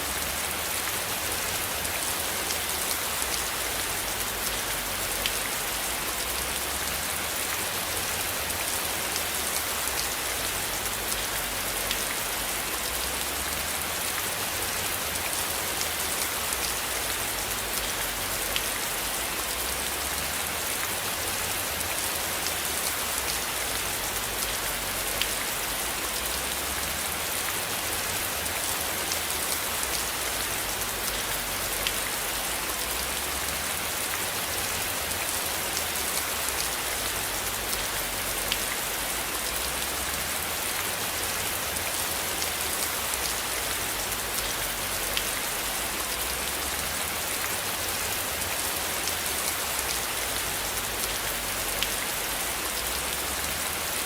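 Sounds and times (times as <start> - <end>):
gentle rain falling: 0.0 - 54.0.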